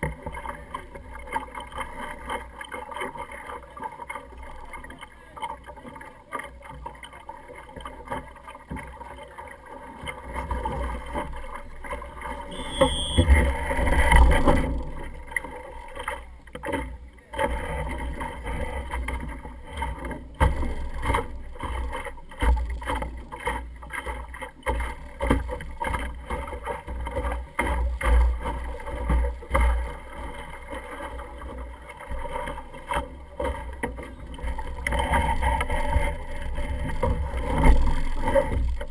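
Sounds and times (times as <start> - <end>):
water rushing along boat hull: 0.0 - 38.9.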